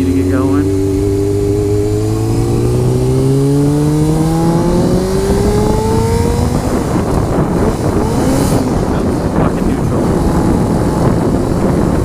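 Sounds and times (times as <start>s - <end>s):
motorcycle engine accelerating: 0.0s - 12.0s
wind rumble on microphone: 0.0s - 12.0s.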